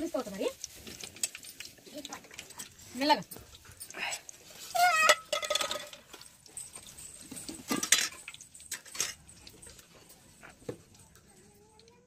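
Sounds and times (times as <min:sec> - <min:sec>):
wire skimmer clinking on steel bowl: 0:00.1 - 0:11.9.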